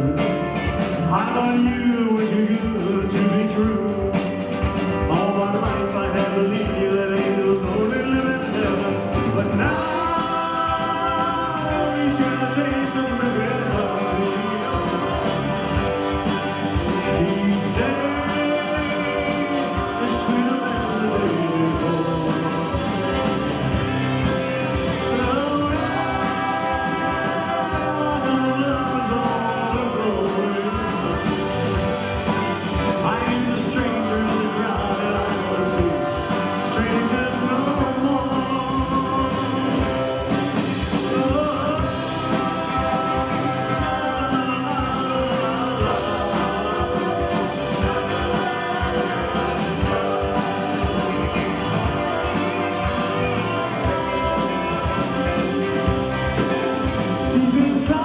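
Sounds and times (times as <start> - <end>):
person singing: 0.0 - 58.0
rock and roll band playing: 0.0 - 58.0.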